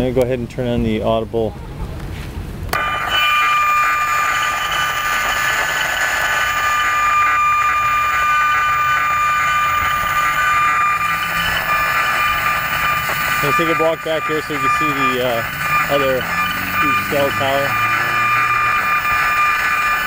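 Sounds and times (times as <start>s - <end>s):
meter buzz with high tones: 2.8s - 20.0s.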